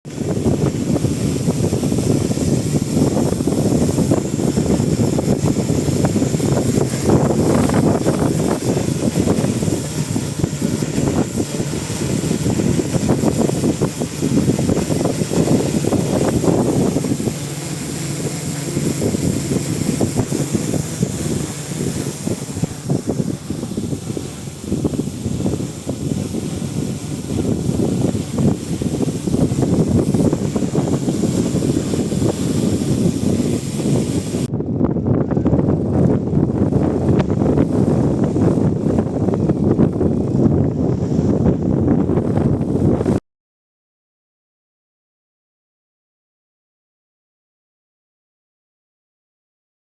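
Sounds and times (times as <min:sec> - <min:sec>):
gusty wind on microphone: 0:00.0 - 0:43.2.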